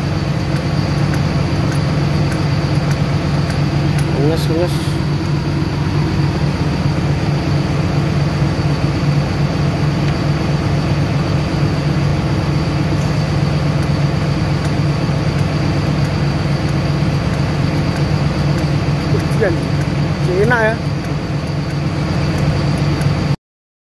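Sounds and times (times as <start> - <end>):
machine drone: 0.0 - 23.4.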